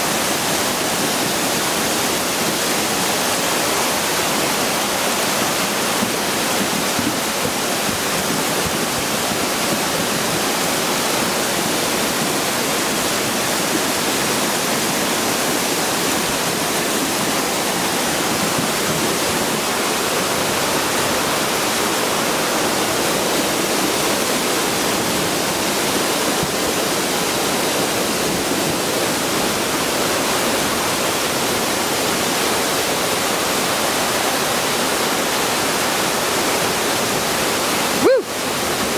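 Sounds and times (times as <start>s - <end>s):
flood water rushing: 0.0s - 38.9s
heavy rain hissing: 0.0s - 38.9s.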